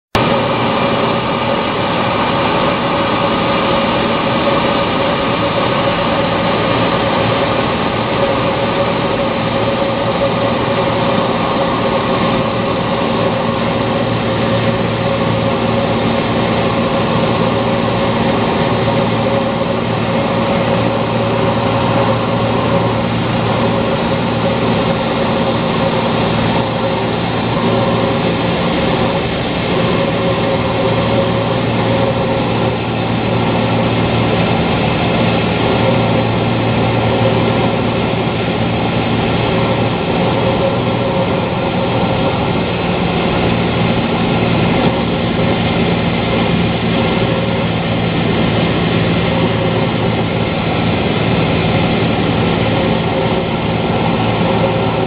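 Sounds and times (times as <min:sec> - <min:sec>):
light aircraft engine and propeller: 0:00.2 - 0:55.0.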